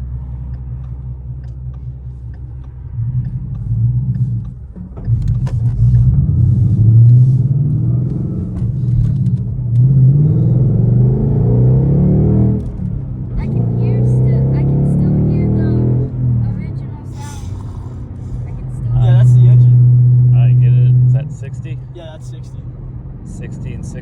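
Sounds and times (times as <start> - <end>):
car exhaust accelerating hard: 0.0 - 24.0.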